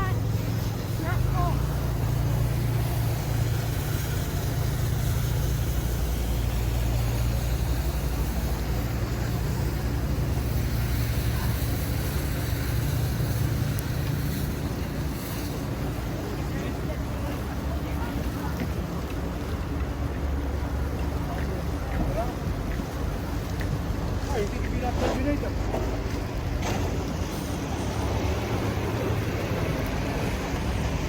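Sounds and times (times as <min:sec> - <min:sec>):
city street noise: 0:00.0 - 0:31.0
vehicle engine humming: 0:00.0 - 0:31.0.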